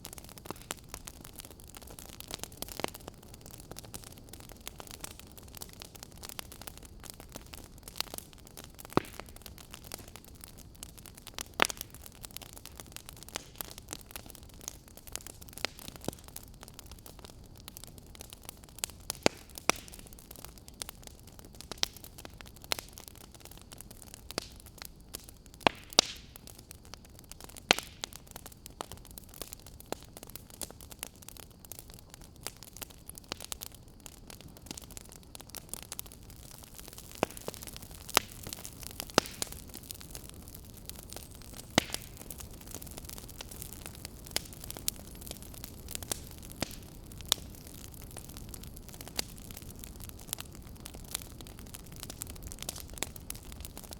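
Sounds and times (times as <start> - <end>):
low fire hiss: 0.0 - 53.9
wood fire pops and snaps: 0.0 - 53.9.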